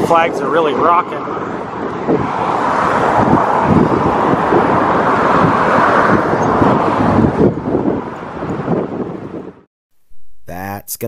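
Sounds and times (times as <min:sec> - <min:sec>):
road traffic rushing: 0:00.0 - 0:09.7
wind buffeting microphone: 0:00.0 - 0:09.7.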